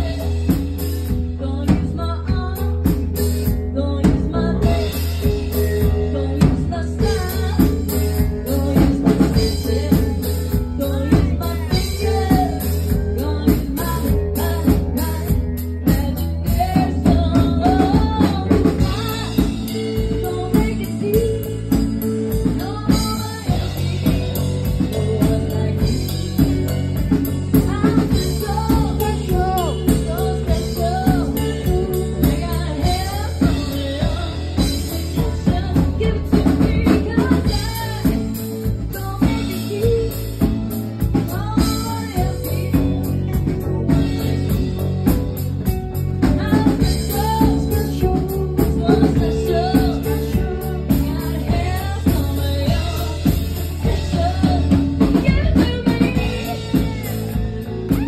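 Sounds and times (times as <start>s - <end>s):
drum kit: 0.0s - 58.0s
electric guitar: 0.0s - 58.0s
woman singing into microphone: 0.0s - 58.0s.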